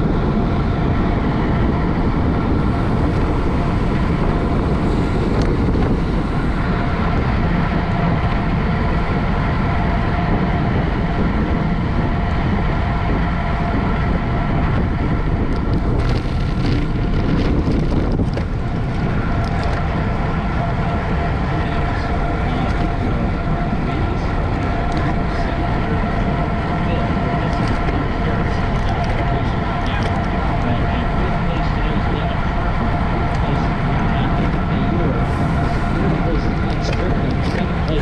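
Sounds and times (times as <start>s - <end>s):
wind on microphone: 0.0s - 38.0s.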